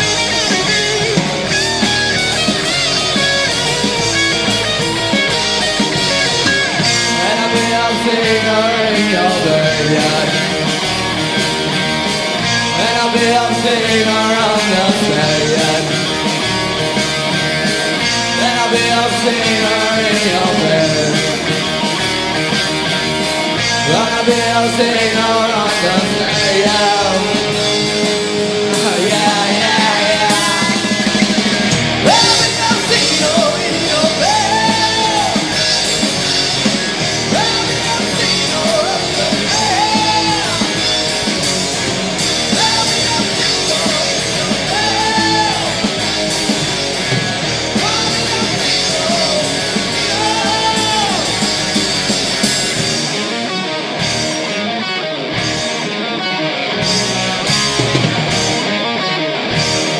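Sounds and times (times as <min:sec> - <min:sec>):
distorted electric guitars: 0:00.0 - 0:59.9
drums: 0:00.0 - 0:59.9.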